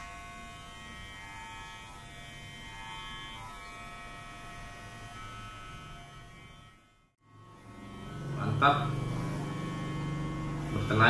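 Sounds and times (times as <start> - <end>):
hair clipper buzzing: 0.0 - 11.0.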